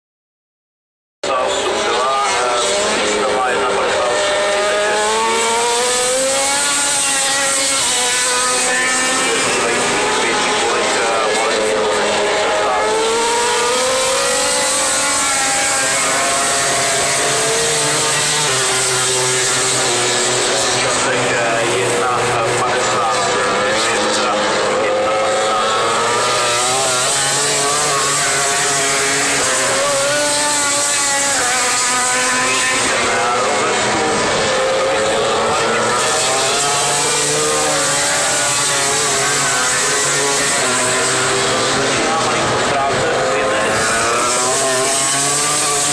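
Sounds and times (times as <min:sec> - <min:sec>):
racing motorcycles passing: 0:01.6 - 0:45.9.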